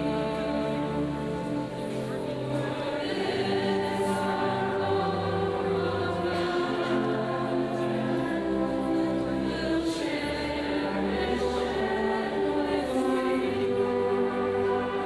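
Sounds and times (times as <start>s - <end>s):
choir of students singing: 0.0s - 15.0s.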